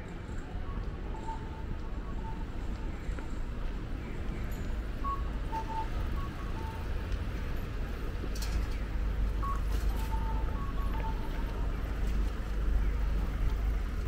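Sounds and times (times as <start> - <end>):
city traffic hum: 0.0 - 14.0.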